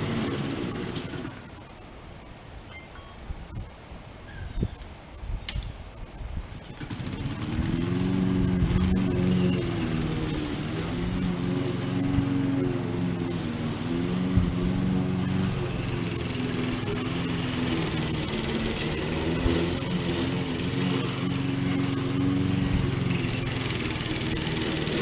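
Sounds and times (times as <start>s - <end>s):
lawn mower engine running: 0.0s - 1.8s, 6.5s - 25.0s.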